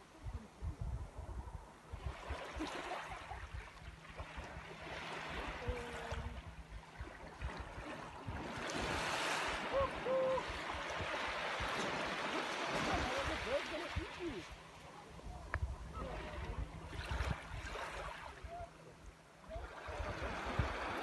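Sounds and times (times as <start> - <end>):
wind rumbling on microphone: 0.0 - 21.0
waves washing on sandy beach: 1.1 - 21.0.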